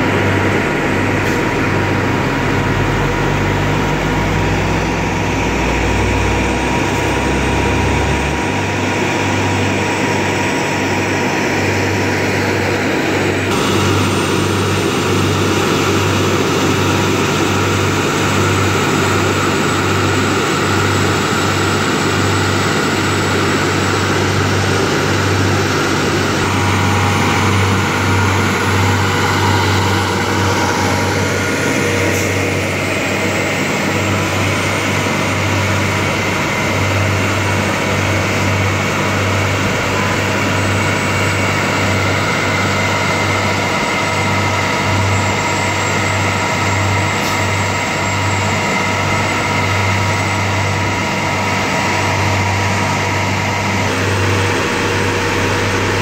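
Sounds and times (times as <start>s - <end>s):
heavy diesel trucks driving past: 0.0s - 56.0s.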